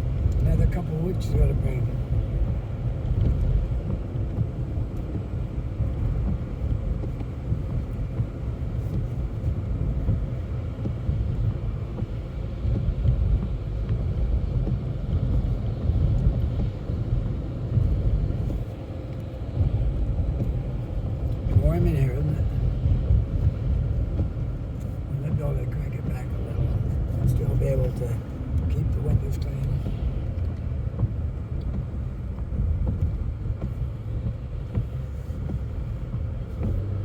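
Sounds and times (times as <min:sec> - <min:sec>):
car driving on wet snowy road: 0:00.0 - 0:37.0.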